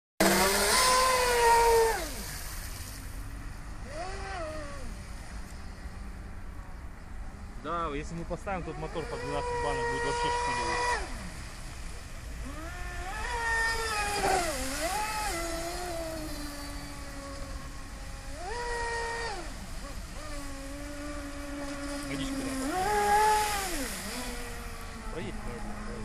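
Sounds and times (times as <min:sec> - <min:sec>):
high-pitched electric motor whine: 0:00.2 - 0:03.0, 0:03.8 - 0:06.2, 0:08.5 - 0:11.5, 0:12.4 - 0:26.0.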